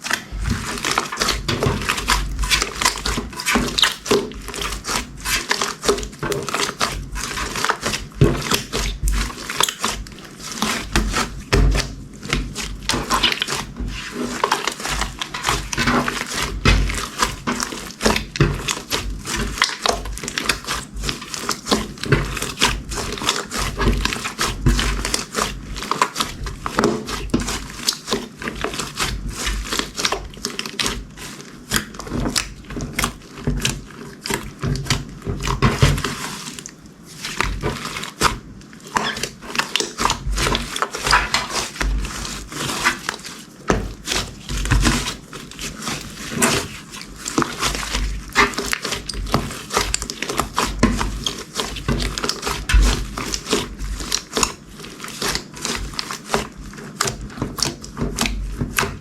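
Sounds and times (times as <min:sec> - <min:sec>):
slime crackling and popping: 0:00.0 - 0:59.0.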